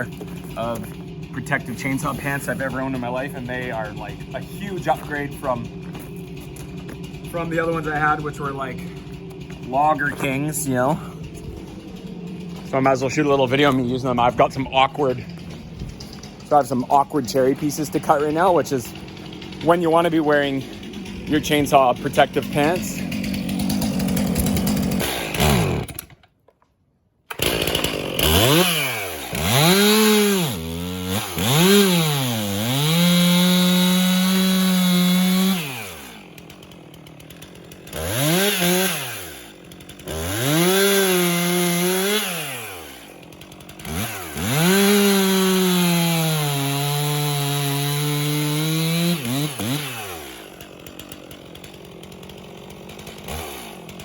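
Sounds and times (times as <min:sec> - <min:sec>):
chainsaw cutting wood: 0:00.0 - 0:26.6, 0:27.3 - 0:54.0.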